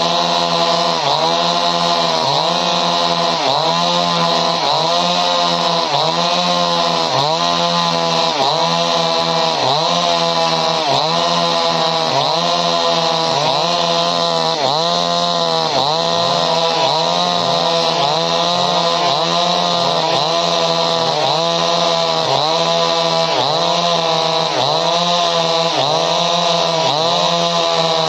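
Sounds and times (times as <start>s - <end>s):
chainsaw running at high revs: 0.0s - 28.0s.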